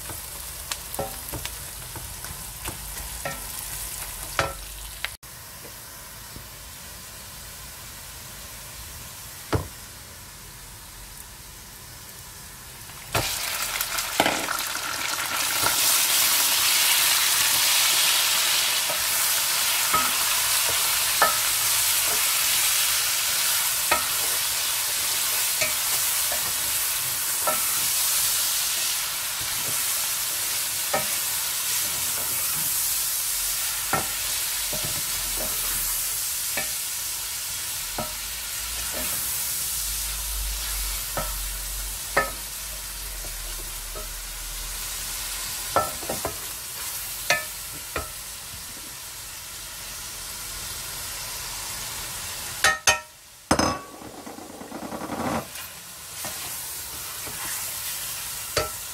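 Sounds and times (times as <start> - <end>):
chicken and onions sizzling in oil: 0.0 - 58.9.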